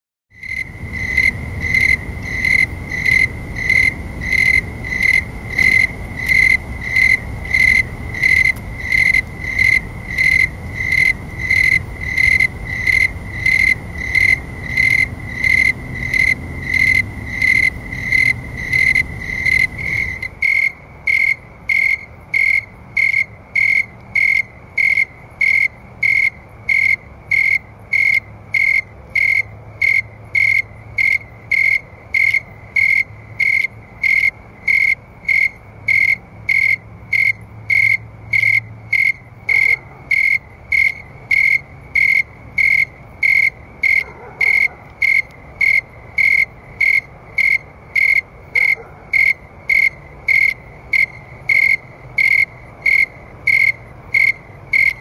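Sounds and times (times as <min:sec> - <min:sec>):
crickets chirping: 0:00.4 - 0:55.0.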